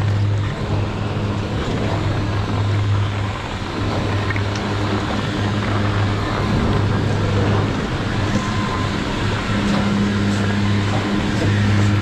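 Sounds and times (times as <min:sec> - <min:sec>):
chairlift machinery humming: 0:00.0 - 0:12.0
continuous rough noise: 0:00.0 - 0:12.0.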